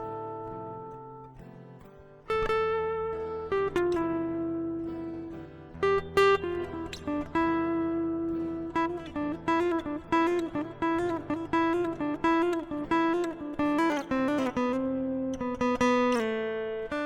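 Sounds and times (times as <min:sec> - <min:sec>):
acoustic guitar plucked melody: 0:00.0 - 0:17.0.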